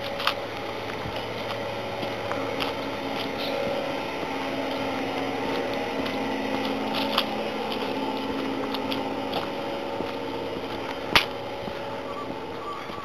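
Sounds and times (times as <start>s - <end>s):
footsteps on dirt path: 0.0s - 13.0s
steady hum: 0.0s - 13.0s.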